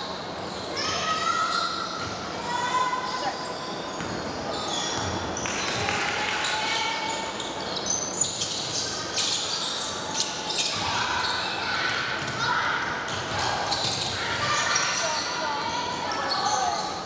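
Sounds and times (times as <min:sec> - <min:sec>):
sneaker squeaks: 0:00.0 - 0:17.0.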